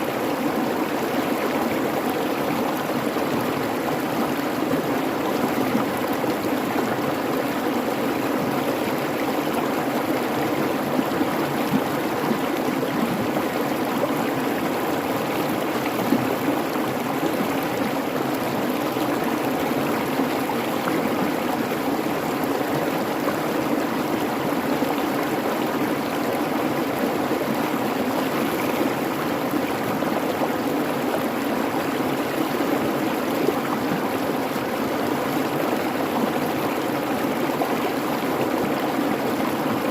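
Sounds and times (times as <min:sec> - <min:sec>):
creek babbling over rocks: 0:00.0 - 0:39.9.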